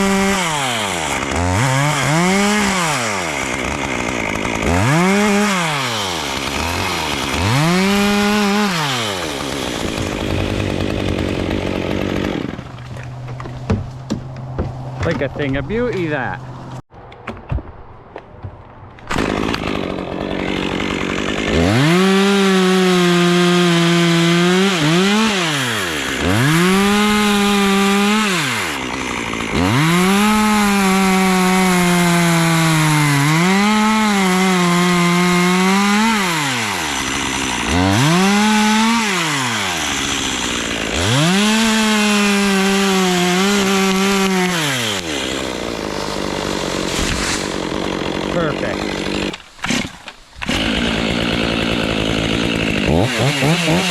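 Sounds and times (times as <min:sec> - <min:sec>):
chainsaw revving and cutting wood: 0:00.0 - 0:16.4, 0:19.1 - 0:53.9.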